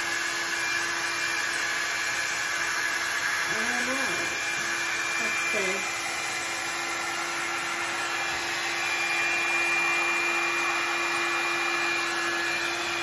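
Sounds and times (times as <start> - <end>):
hot-air brush blowing air: 0.0 - 13.0.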